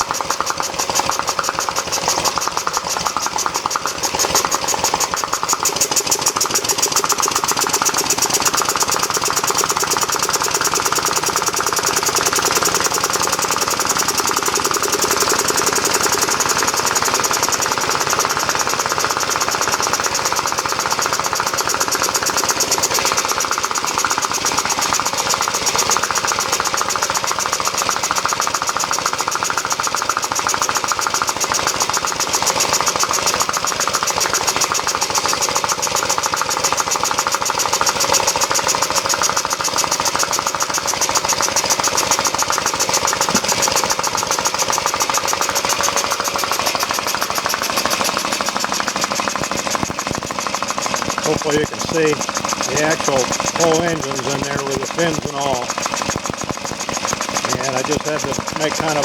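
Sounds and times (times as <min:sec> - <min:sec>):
single-cylinder engine running: 0:00.0 - 0:59.0.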